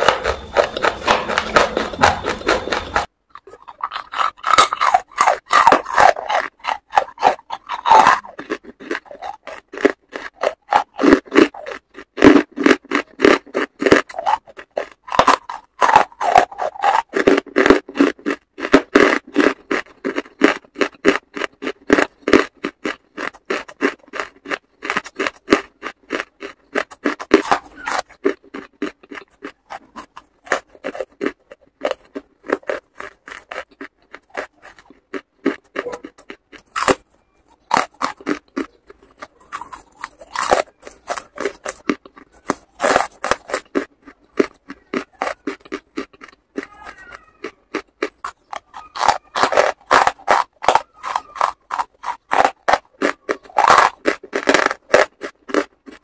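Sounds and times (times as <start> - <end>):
chewing gritty crunches: 0.0 - 56.0.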